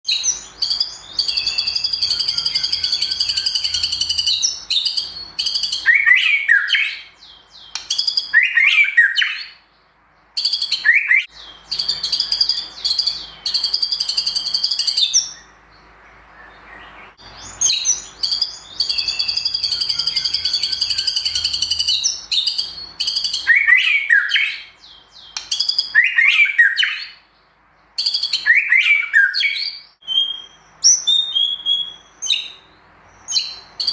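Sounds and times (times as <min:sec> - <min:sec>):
songbird trilling and whistling: 0:00.1 - 0:09.7, 0:10.4 - 0:15.6, 0:16.3 - 0:27.3, 0:28.0 - 0:33.9.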